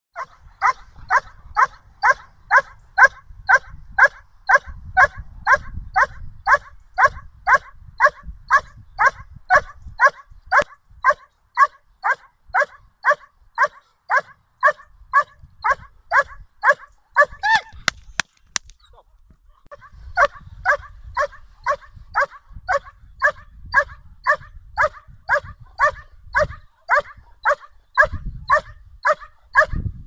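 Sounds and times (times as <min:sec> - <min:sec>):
dog barking: 0:00.2 - 0:17.4, 0:19.7 - 0:29.8.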